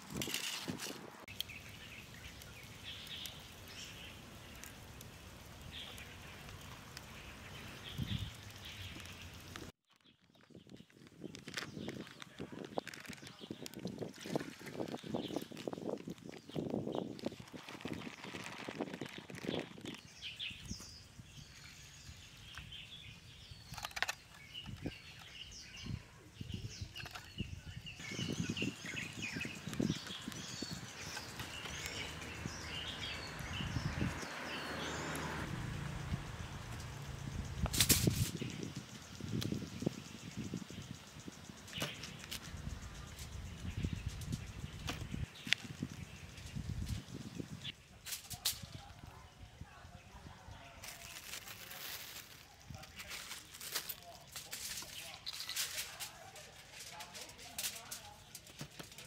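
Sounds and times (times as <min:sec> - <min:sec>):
steady outdoor hiss: 0:00.0 - 0:09.7, 0:11.0 - 0:59.0
fire crackling faintly: 0:00.0 - 0:59.0
small birds chirping: 0:00.0 - 0:59.0.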